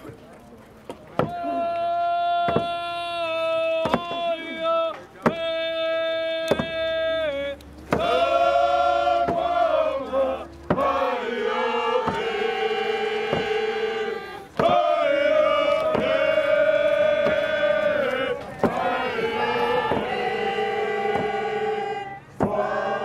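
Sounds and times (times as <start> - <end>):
group singing prayer song: 2.0 - 23.0.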